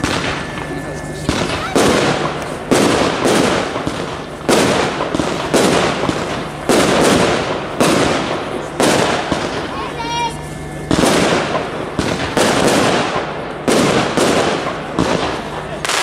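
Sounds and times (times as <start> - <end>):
firework cake bangs: 0.0 - 9.8, 10.9 - 16.0.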